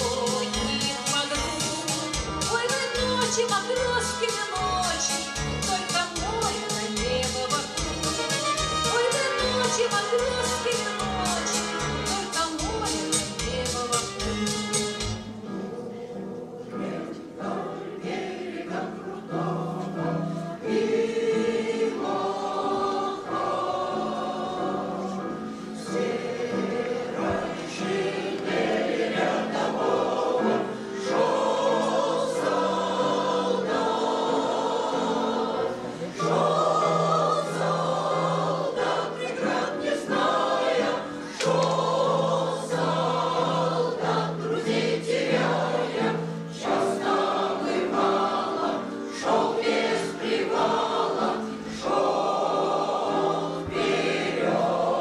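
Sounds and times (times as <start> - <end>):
choir singing: 0.0 - 4.3, 15.2 - 55.0.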